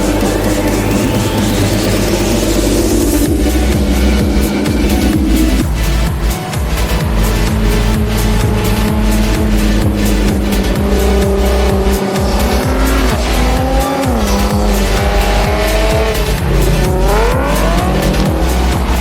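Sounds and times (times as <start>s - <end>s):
electronic music with steady beat: 0.0s - 19.0s
race car engines revving: 0.0s - 19.0s.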